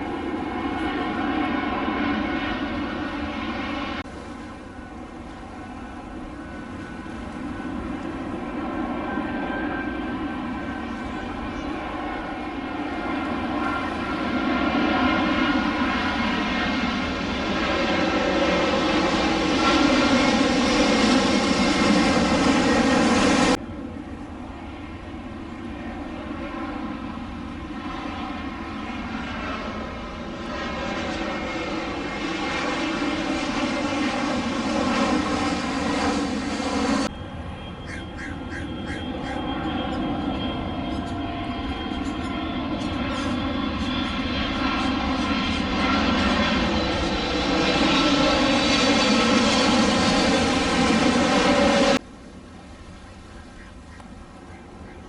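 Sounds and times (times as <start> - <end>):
jet airliner engines droning: 0.0 - 55.0.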